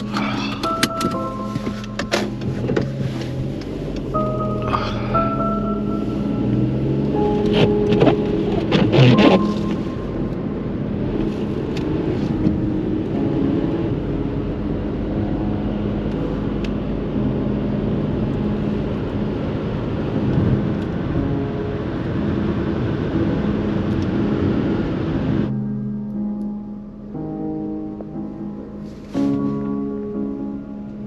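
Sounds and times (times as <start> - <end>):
road noise: 0.0 - 31.0
truck engine running: 0.0 - 31.0.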